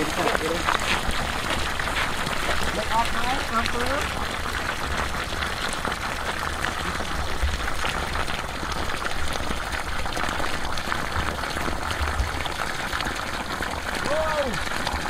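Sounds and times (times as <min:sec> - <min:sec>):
water gushing from pipe: 0:00.0 - 0:15.0.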